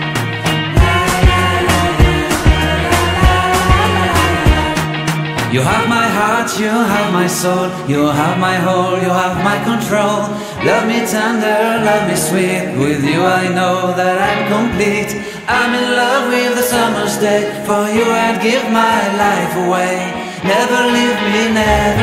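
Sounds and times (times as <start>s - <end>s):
background music with singing: 0.0s - 22.0s.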